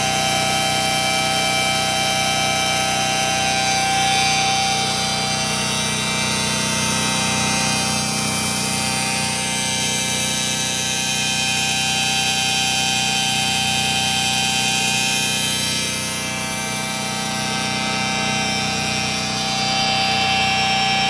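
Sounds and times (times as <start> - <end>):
machine whine: 0.0 - 21.0.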